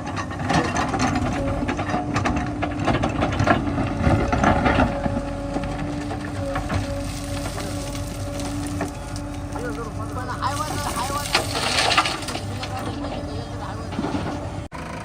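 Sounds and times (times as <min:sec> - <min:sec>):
metallic clanks and knocks: 0:00.0 - 0:09.7, 0:11.1 - 0:14.6
diesel engine hum: 0:00.0 - 0:15.0.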